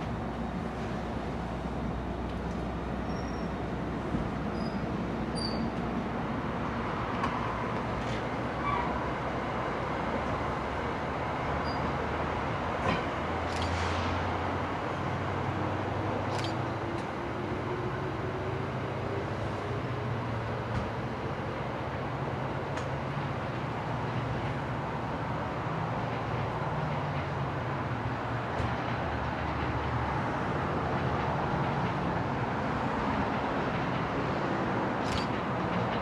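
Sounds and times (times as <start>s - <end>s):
diesel locomotive engine running: 0.0s - 36.0s.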